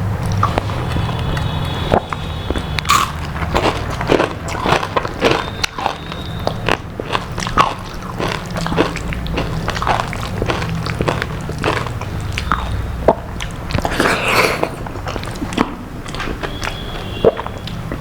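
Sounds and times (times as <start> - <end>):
crunching of crispy food: 0.2 - 18.0
wet mouth sounds: 0.2 - 18.0.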